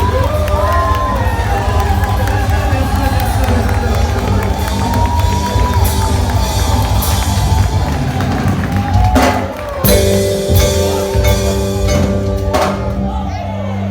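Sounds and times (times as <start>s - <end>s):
live band music: 0.0s - 13.9s.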